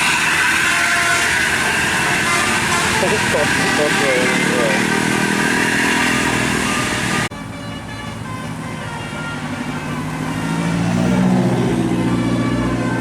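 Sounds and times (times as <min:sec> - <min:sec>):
bus engine approaching: 0:00.0 - 0:13.0
traffic noise: 0:00.0 - 0:13.0.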